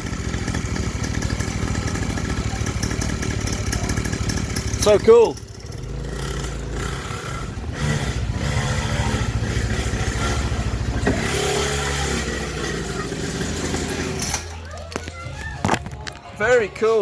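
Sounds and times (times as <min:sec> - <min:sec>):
small dirt bike engine running: 0:00.0 - 0:15.0.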